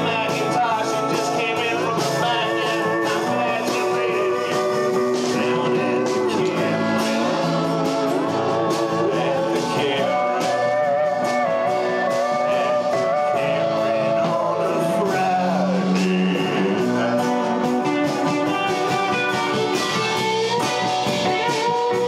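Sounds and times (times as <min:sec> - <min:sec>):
blues-rock band playing: 0:00.0 - 0:22.0.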